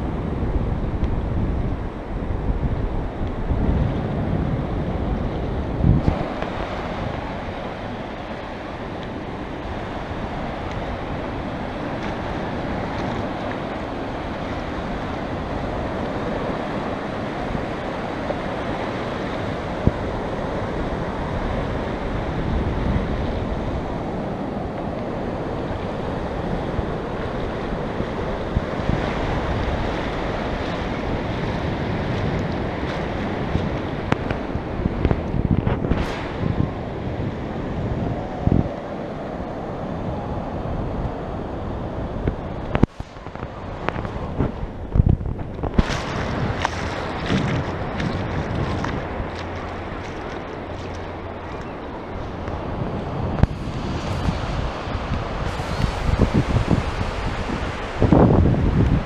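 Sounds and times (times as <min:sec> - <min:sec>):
surf washing onto beach: 0:00.0 - 0:59.0
wind buffeting microphone: 0:00.0 - 0:59.0.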